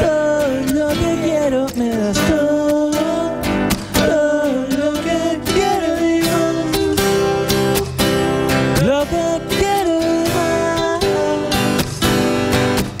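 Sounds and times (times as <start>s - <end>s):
person singing: 0.0s - 12.4s
acoustic guitars strummed: 0.0s - 13.0s.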